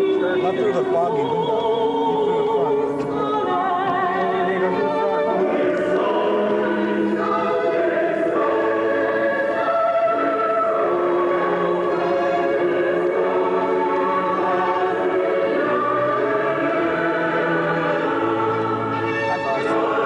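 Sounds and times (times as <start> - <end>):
choir singing: 0.0 - 20.0.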